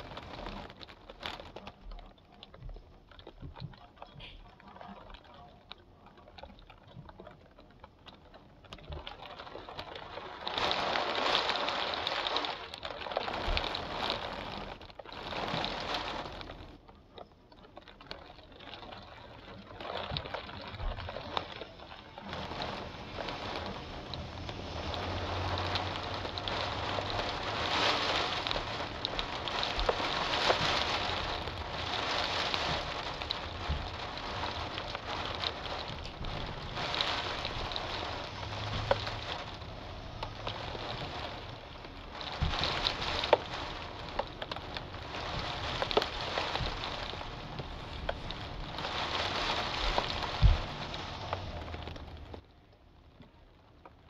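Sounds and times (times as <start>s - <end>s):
rain falling steadily: 0.0s - 54.0s.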